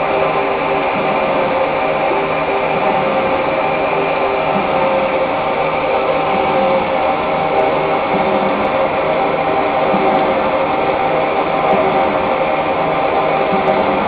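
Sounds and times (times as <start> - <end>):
gear cutting machine whining: 0.1 - 14.0.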